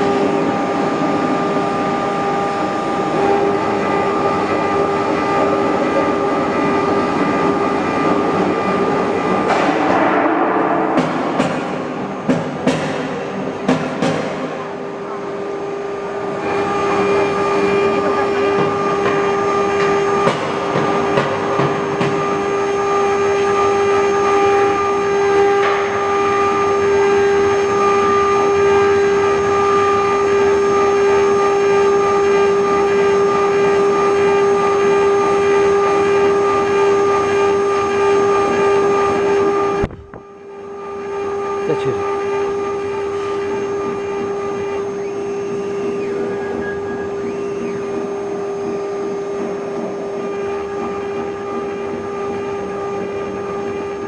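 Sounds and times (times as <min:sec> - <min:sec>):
router spindle whine: 0:00.0 - 0:09.9, 0:13.2 - 0:54.0.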